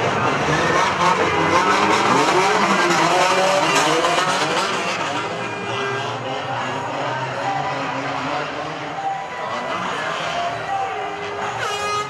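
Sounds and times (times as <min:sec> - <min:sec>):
race car engines revving: 0:00.0 - 0:12.0
track rumble: 0:00.0 - 0:12.0.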